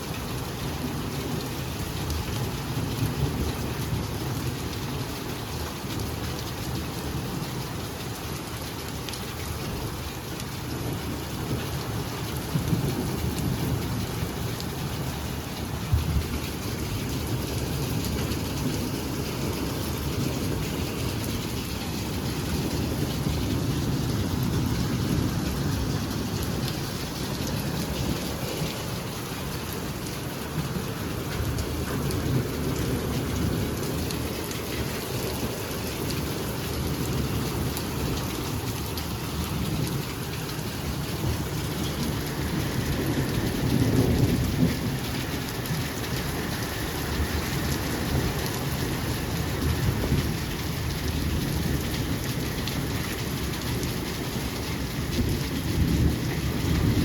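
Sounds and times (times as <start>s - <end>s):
heavy rain with deep rumble: 0.0s - 57.0s.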